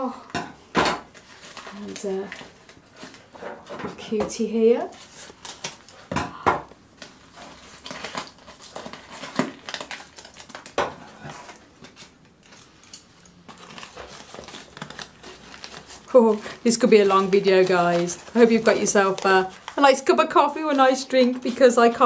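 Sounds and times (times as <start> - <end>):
paper crinkling and rustling: 1.1 - 4.0, 4.6 - 6.1, 7.0 - 22.0.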